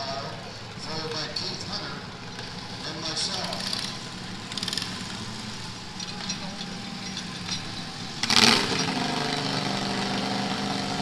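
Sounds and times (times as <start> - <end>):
small tractor engines running: 0.0 - 11.0.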